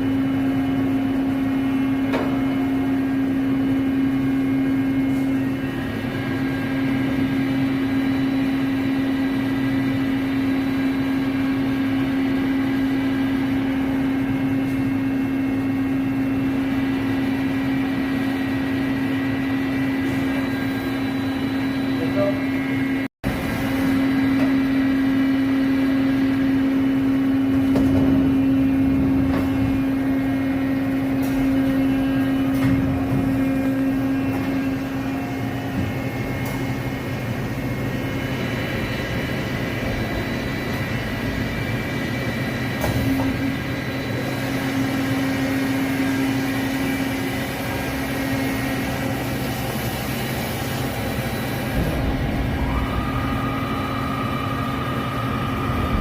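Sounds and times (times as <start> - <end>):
high steady whine: 0.0 - 56.0
machine humming: 0.0 - 56.0.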